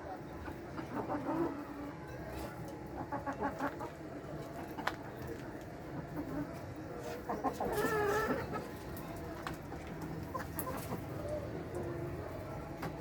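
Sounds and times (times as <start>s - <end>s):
hens clucking: 0.0s - 12.1s
low background noise: 0.0s - 13.0s.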